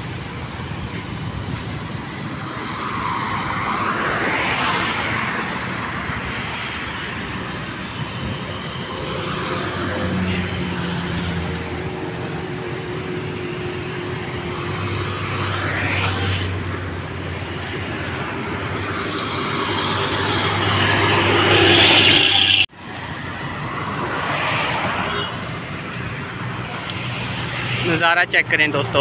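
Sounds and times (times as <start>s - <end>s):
vehicles passing on a road: 0.0s - 29.0s.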